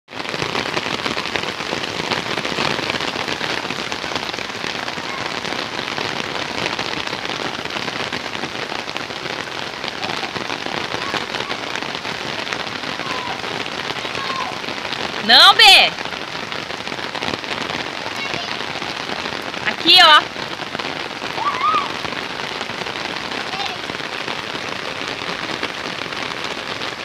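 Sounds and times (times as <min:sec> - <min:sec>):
steady rain falling: 0:00.1 - 0:27.0.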